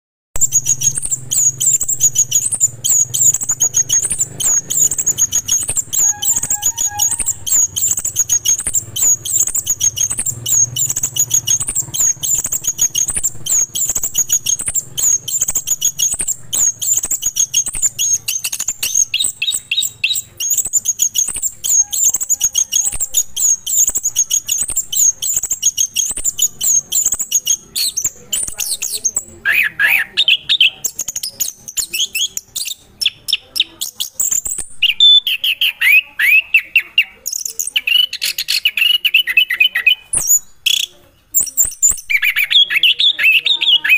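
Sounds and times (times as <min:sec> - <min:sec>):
thrush singing chirps and trills: 0:00.3 - 0:43.9.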